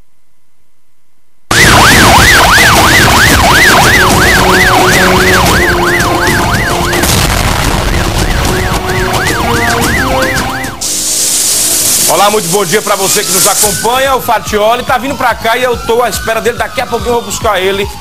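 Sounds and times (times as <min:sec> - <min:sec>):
news theme music with beat: 0:01.5 - 0:10.8, 0:12.1 - 0:18.0
siren yelp sweeping: 0:01.5 - 0:18.0.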